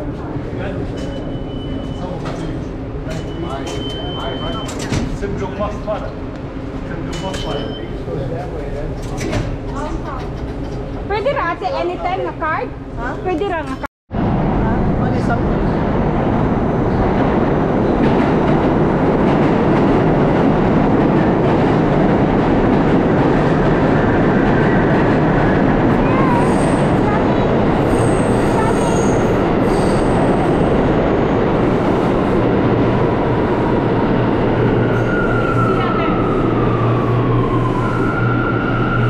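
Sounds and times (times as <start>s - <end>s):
subway train wheels rumbling on rail: 0.0s - 39.0s.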